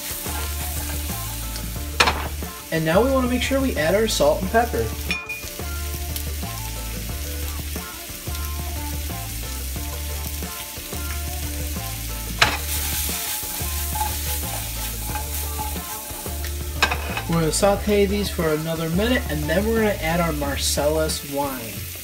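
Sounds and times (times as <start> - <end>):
food sizzling in butter: 0.0 - 22.0.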